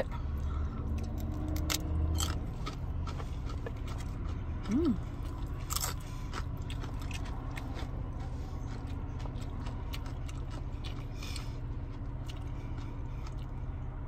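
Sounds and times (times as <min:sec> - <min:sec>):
steady low hum: 0:00.0 - 0:14.0
person chewing crunchy food: 0:00.8 - 0:14.0.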